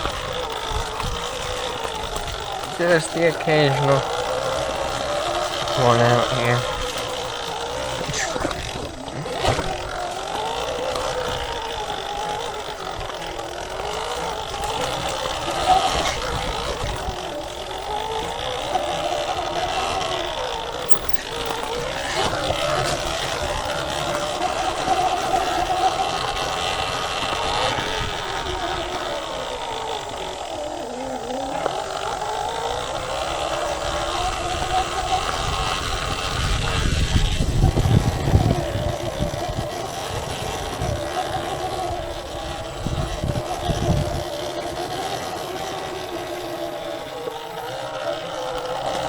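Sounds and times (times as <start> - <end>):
electric motor whining: 0.0 - 49.0
rushing riding noise: 0.0 - 49.0.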